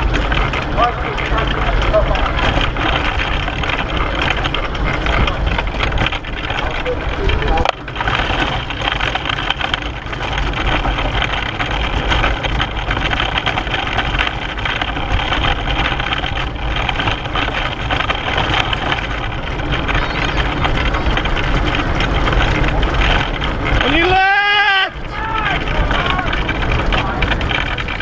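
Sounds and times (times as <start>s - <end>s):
wheels rumbling and rattling on road: 0.0s - 28.0s.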